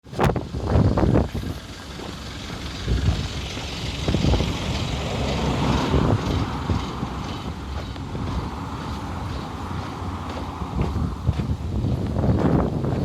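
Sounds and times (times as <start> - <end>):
road traffic passing: 0.0 - 13.0
wind rumble on microphone: 0.0 - 13.0.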